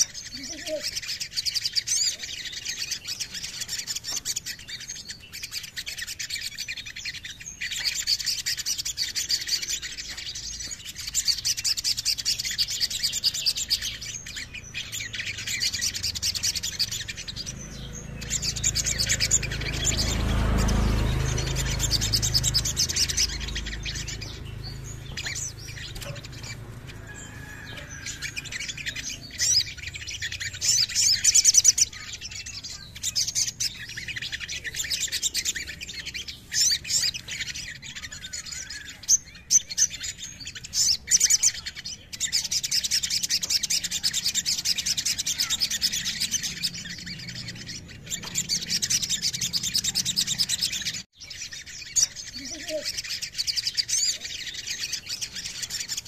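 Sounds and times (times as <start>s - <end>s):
bird chirps: 0.0s - 56.0s
bird trilling: 0.0s - 56.0s.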